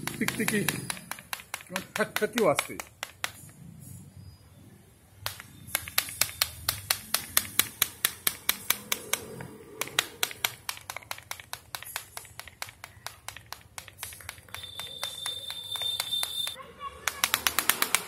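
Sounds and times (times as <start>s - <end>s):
clapper toy clicking: 0.0s - 3.6s, 5.2s - 18.0s.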